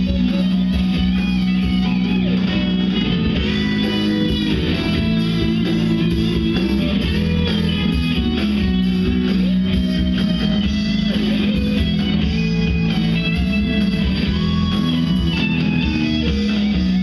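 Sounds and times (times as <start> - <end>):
electric guitar lead melody: 0.0 - 17.0.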